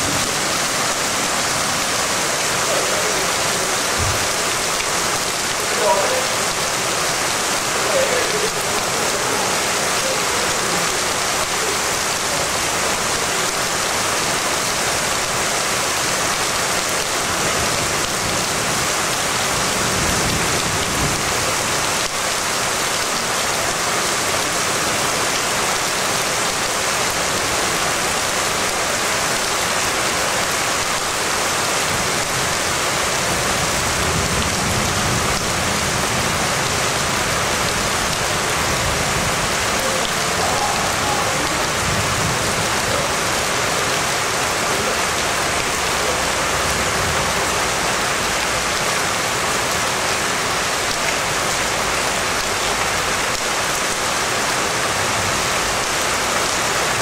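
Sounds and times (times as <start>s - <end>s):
rain pouring: 0.0s - 57.0s.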